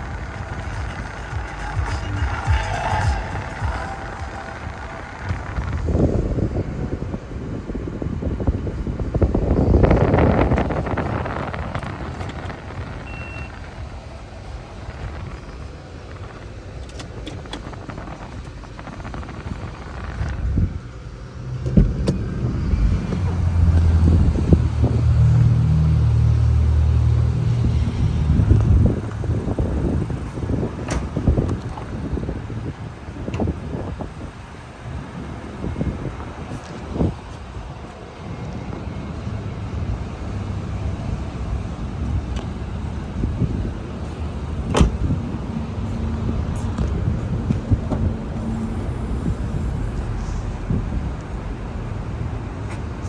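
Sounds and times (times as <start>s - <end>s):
car engine humming: 0.0s - 53.0s.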